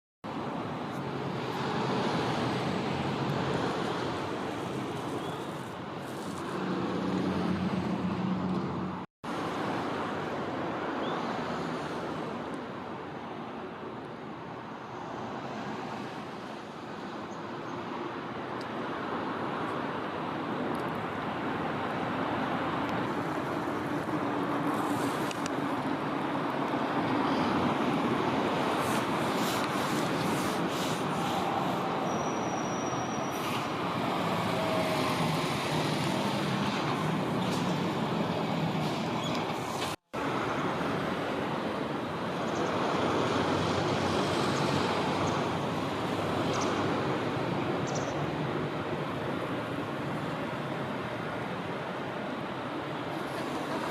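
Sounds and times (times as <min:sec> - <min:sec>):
road traffic: 0:00.2 - 0:53.9.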